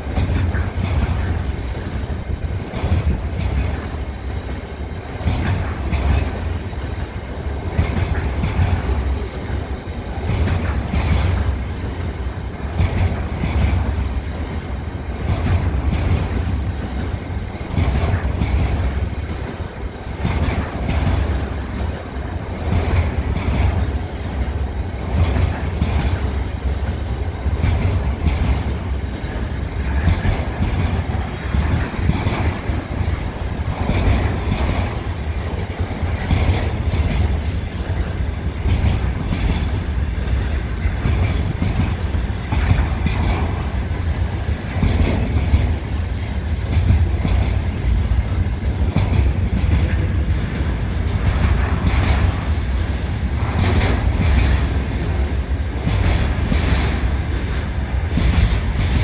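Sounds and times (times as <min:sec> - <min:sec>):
freight train rumbling past: 0:00.0 - 0:59.0
wheels clacking over rail joints: 0:00.0 - 0:59.0.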